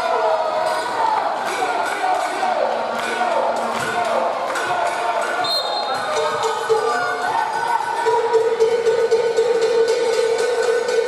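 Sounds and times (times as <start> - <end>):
crowd hum in large hall: 0.0 - 11.0.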